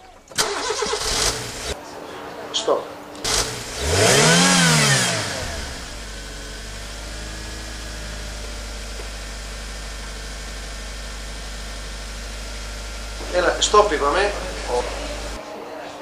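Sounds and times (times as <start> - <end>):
small car engine revving: 0.4 - 1.8, 3.2 - 15.4
steady low hum: 1.4 - 15.4.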